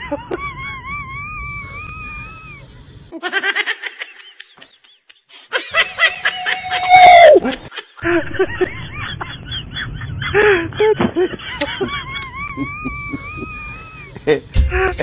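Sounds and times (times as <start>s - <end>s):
person laughing: 0.0s - 2.4s, 3.1s - 14.9s.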